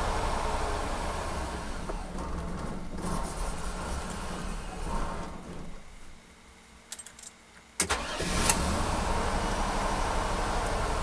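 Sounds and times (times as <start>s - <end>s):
engine idling and restarting: 0.0s - 6.1s, 7.8s - 11.0s.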